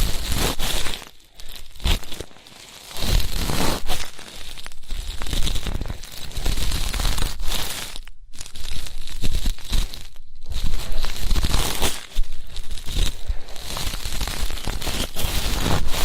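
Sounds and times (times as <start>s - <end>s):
ear pick scratching microphone: 0.0s - 16.0s.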